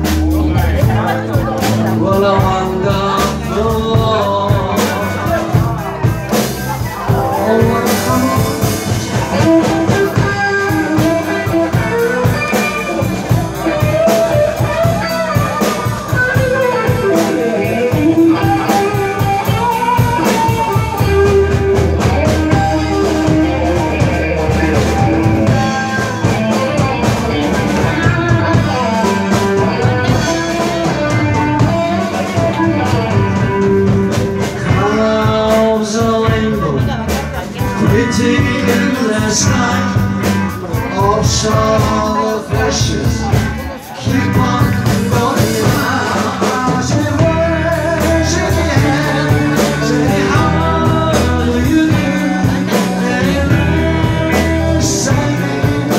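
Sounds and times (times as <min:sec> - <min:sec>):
drum kit: 0:00.0 - 0:55.9
electric guitar: 0:00.0 - 0:55.9
man singing: 0:00.0 - 0:55.9.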